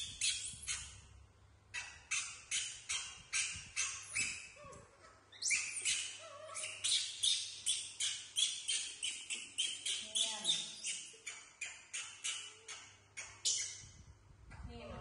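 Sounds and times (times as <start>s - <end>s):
monkeys squeaking: 0.0s - 1.1s, 1.7s - 14.0s.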